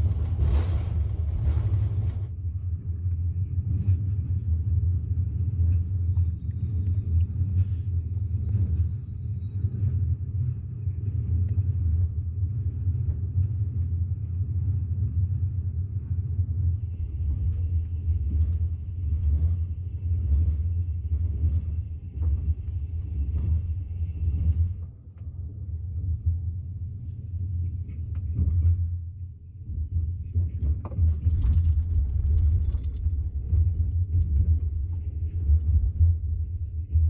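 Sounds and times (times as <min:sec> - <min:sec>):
train low rumble: 0:00.0 - 0:37.0.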